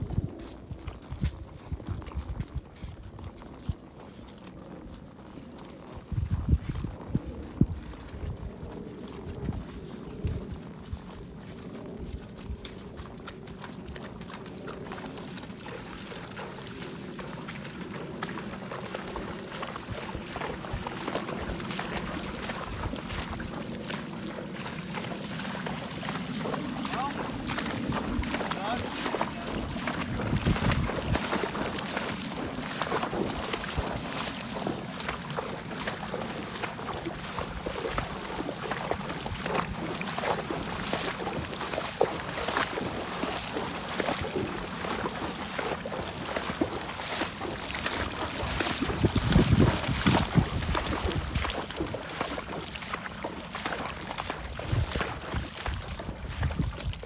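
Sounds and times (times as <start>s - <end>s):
horse hooves splashing in water: 0.0s - 57.0s.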